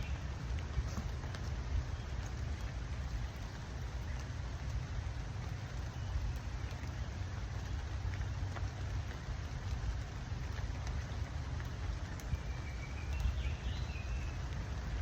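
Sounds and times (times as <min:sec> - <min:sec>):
raindrops ticking: 0:00.0 - 0:15.0
steady rain: 0:00.0 - 0:15.0.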